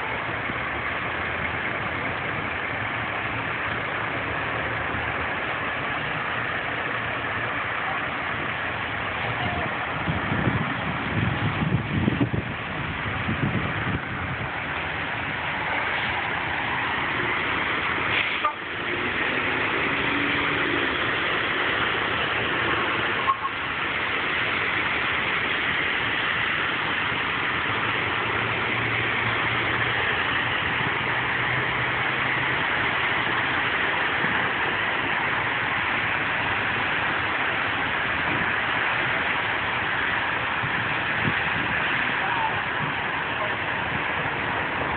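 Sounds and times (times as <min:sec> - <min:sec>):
low engine hum: 0:00.0 - 0:44.9
tyres hissing on wet road: 0:00.0 - 0:44.9.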